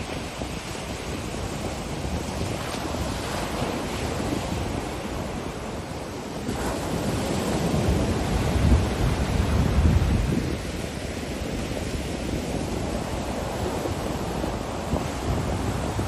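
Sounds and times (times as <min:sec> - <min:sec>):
ocean surf washing onto beach: 0:00.0 - 0:16.0
wind rumbling on microphone: 0:00.0 - 0:16.0.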